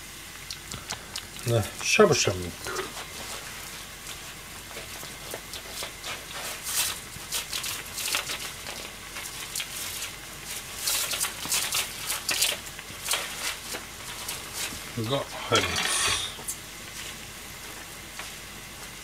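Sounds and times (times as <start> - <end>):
gas stove hiss: 0.0 - 19.0
soup boiling and bubbling: 0.0 - 19.0.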